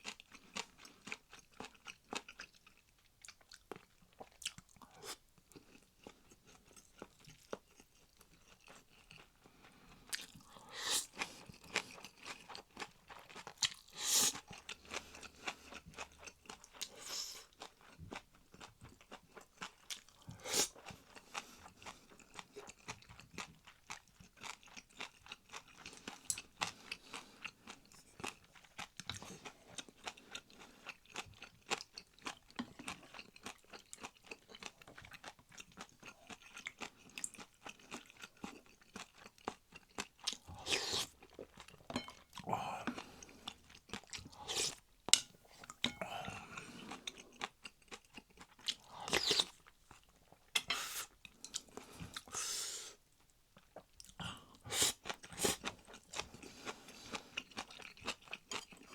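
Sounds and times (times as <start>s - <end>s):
person chewing crunchy food: 0.0s - 52.6s, 53.5s - 58.9s.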